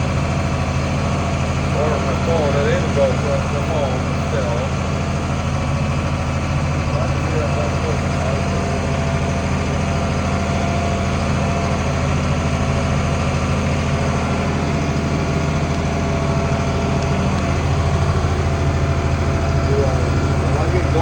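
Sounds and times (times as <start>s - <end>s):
diesel tractor engine from cab: 0.0s - 21.0s.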